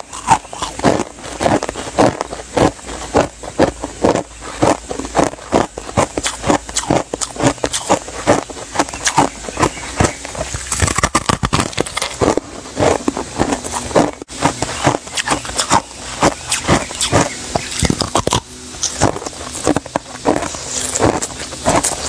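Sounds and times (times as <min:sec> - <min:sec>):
ice being chewed and crunching: 0:00.0 - 0:22.0.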